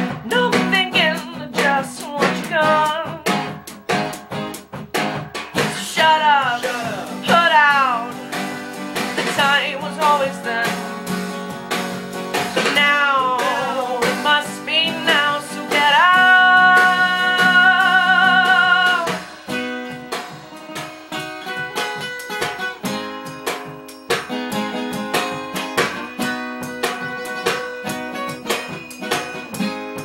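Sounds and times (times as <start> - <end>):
live band with guitar: 0.0 - 30.0.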